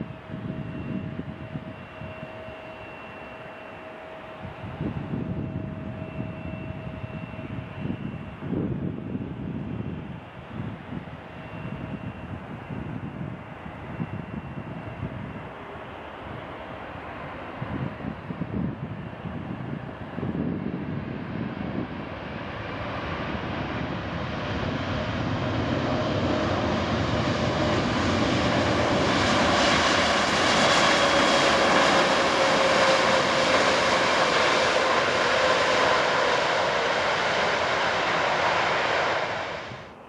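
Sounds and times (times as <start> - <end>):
jet engines roaring and whining: 0.0 - 40.0.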